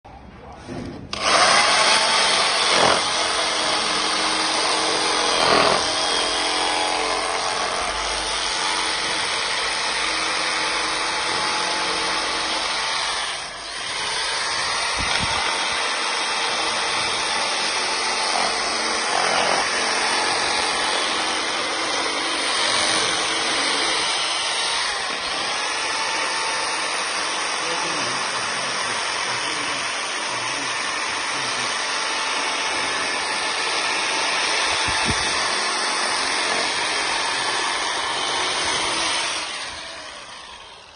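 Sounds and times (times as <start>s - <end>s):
drill-driven reciprocating saw buzzing: 1.1s - 40.9s.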